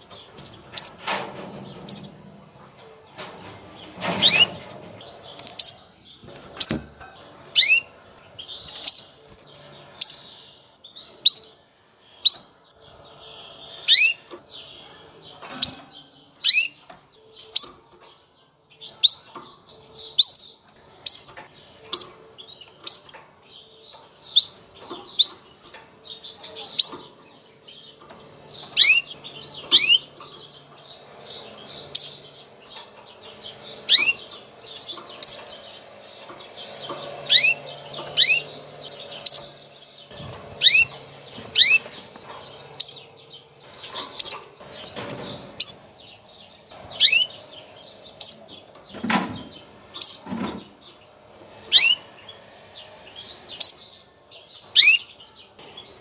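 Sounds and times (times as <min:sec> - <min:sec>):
canary chirping: 0:00.0 - 0:56.0.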